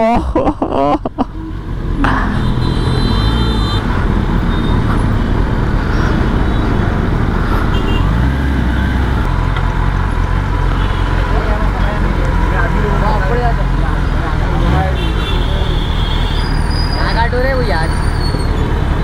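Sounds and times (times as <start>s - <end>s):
city traffic: 0.0s - 19.0s.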